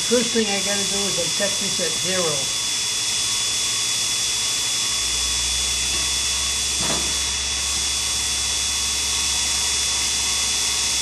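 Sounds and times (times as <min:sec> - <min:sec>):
small motors whining: 0:00.0 - 0:11.0.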